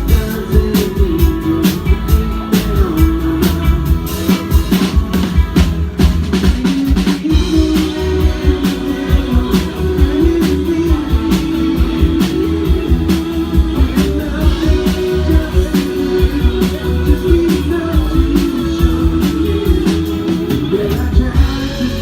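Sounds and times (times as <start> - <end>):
drum kit steady beat: 0.0 - 22.0
live rock band playing: 0.0 - 22.0.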